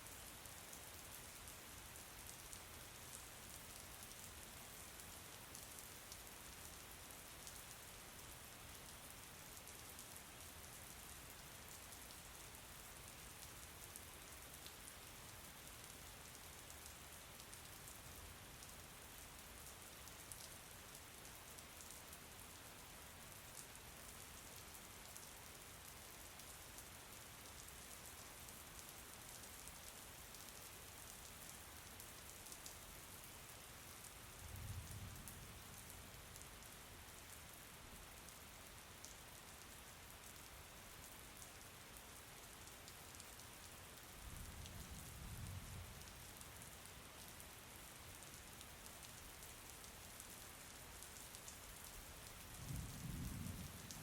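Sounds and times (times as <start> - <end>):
faint rain falling: 0.0 - 54.0.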